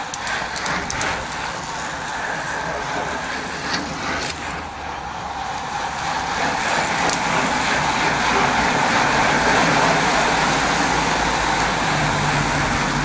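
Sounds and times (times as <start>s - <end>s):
bicycles whirring past: 0.0s - 13.0s.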